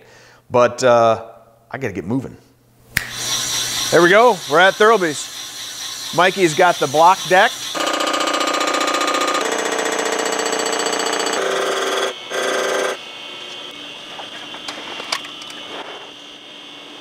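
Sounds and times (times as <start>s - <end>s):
shop noise: 3.0s - 17.0s
machine cutting metal whine: 3.1s - 17.0s.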